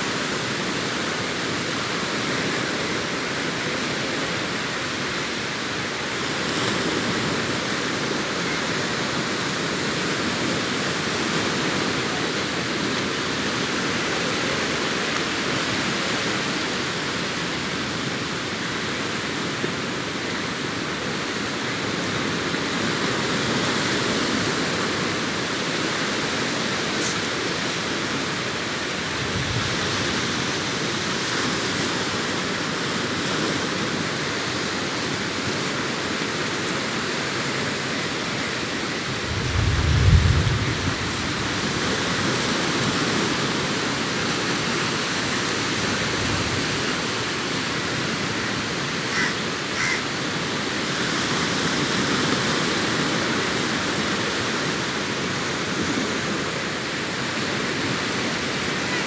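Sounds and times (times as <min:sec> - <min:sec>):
waves washing onto beach: 0:00.0 - 0:59.0.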